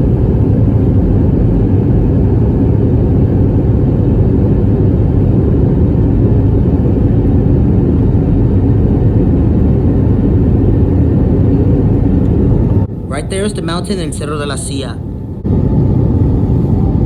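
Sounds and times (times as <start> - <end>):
airflow noise: 0.0 - 17.0
jet engines rumbling in cabin: 0.0 - 17.0.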